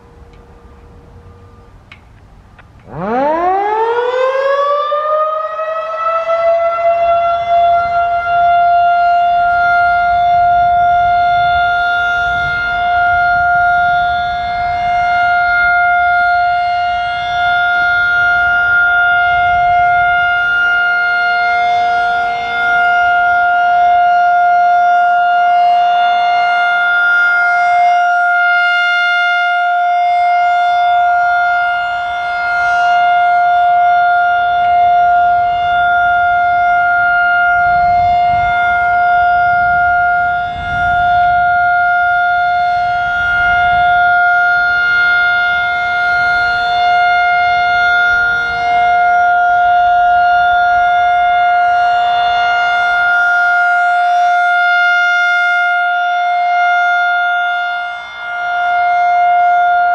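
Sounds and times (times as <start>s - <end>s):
steady warning siren tone: 0.0s - 59.9s.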